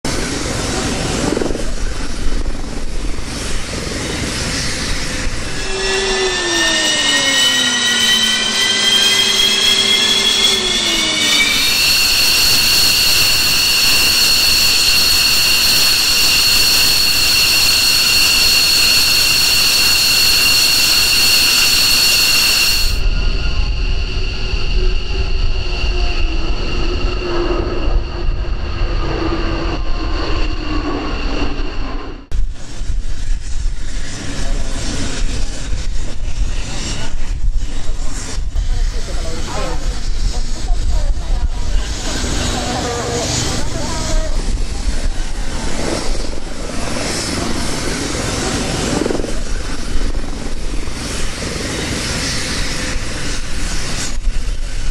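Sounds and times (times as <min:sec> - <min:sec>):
jet engine deep rumble: 0:00.1 - 0:54.9
jet engine whine spooling up: 0:00.1 - 0:54.9.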